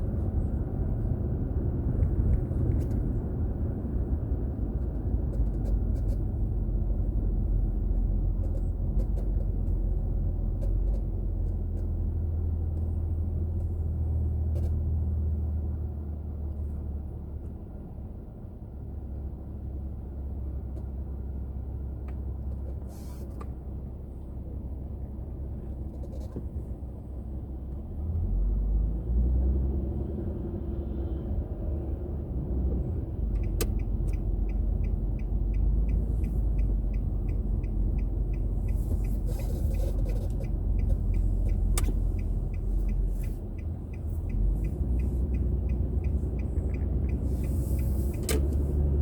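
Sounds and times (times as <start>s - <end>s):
car tyre and engine rumble: 0.0s - 49.0s.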